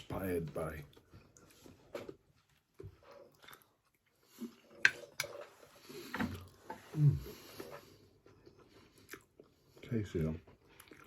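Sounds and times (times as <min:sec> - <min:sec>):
chewing and eating: 0:00.8 - 0:11.0.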